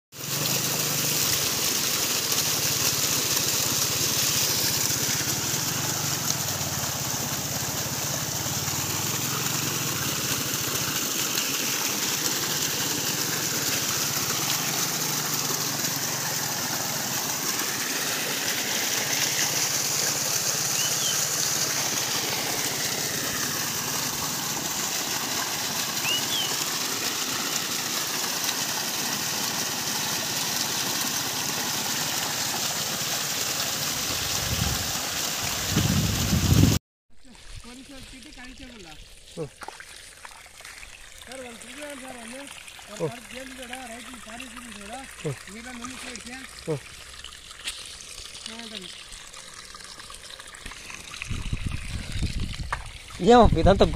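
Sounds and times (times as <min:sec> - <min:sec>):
water gushing and splashing on grass: 0:00.1 - 0:53.9.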